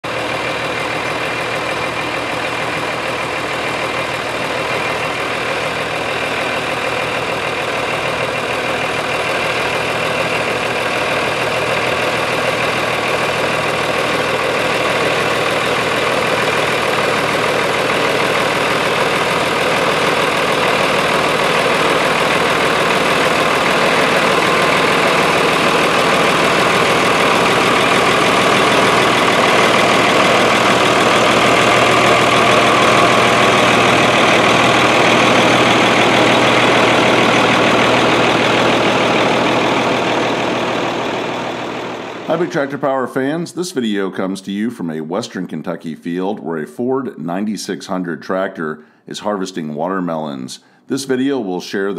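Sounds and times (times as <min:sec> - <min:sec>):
tractor diesel engine running: 0:00.0 - 0:43.4.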